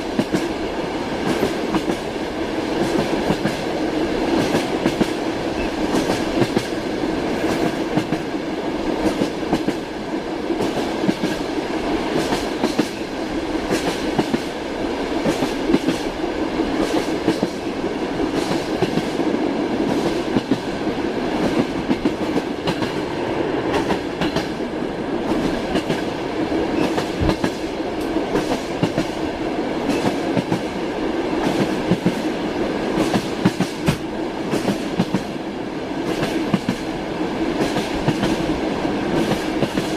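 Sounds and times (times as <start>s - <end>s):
train carriage rumbling on rails: 0.0s - 39.9s
train wheels knocking on track: 0.0s - 39.9s.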